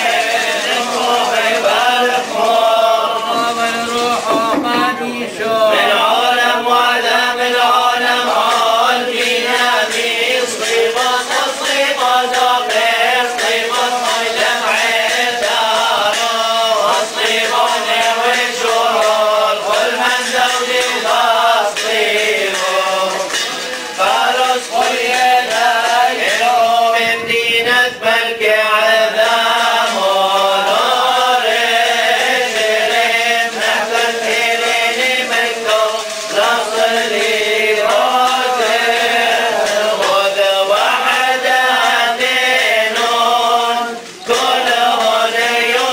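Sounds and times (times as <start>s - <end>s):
men chanting a hymn: 0.0s - 45.9s.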